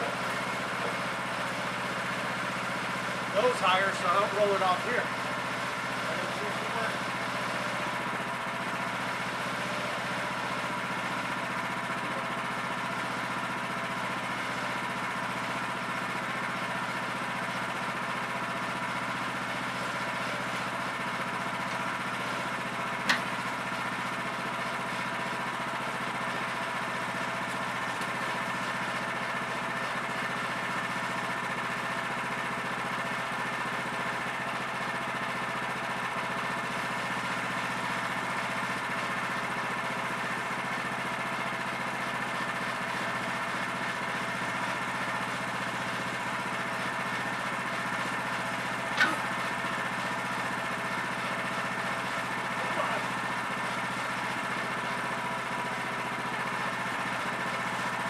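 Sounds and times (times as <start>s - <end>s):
gas engine running steadily: 0.0s - 58.0s.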